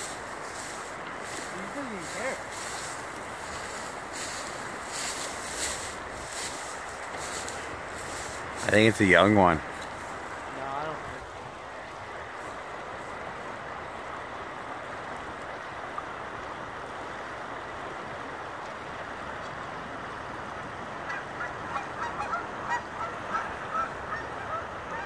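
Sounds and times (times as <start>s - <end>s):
creek water running: 0.0s - 25.0s.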